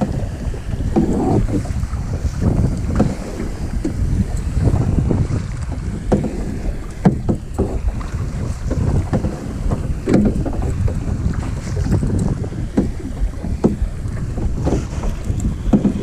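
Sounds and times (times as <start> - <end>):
paddle knocks and splashes: 0.0 - 16.0
wind buffeting microphone: 0.0 - 16.0.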